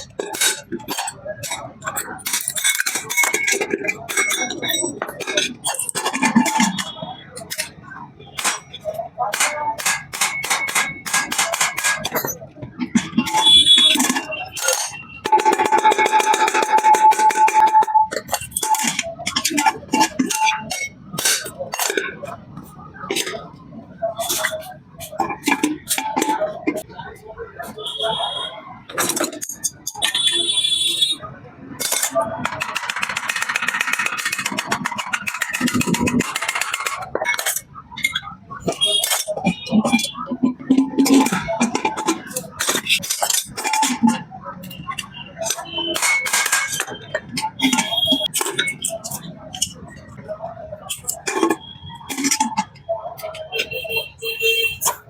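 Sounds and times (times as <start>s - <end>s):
metal clattering and clinking: 0.0s - 26.9s, 28.8s - 30.3s, 31.7s - 53.8s
rapid metal tapping: 0.0s - 26.9s, 27.6s - 55.0s.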